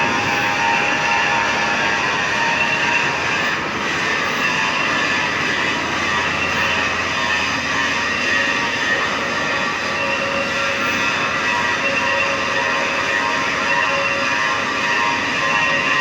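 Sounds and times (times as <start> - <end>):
metal lathe cutting: 0.0 - 16.0.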